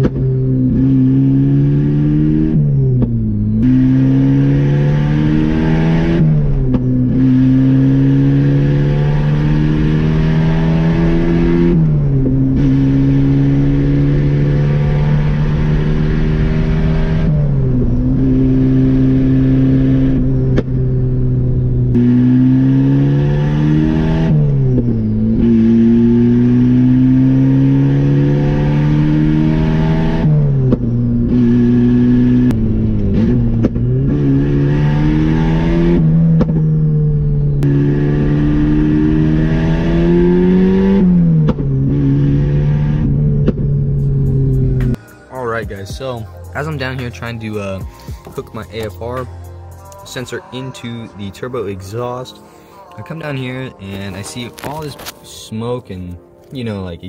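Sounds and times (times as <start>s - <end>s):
car engine revving: 0.0s - 56.5s.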